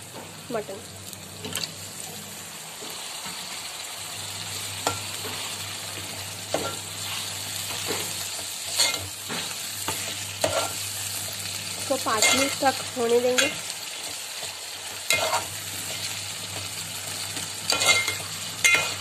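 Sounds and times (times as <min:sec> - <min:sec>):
meat sizzling in hot oil: 0:00.0 - 0:19.0.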